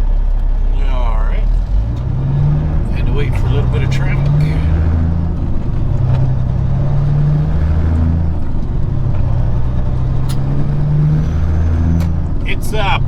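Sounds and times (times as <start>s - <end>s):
truck diesel engine droning: 0.0s - 13.0s.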